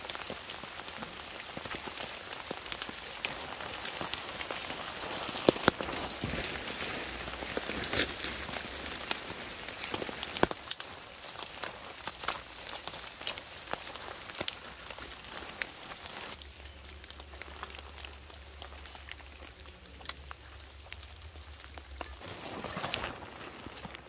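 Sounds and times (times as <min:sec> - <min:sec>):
rain pattering on a tarp: 0:00.0 - 0:24.0.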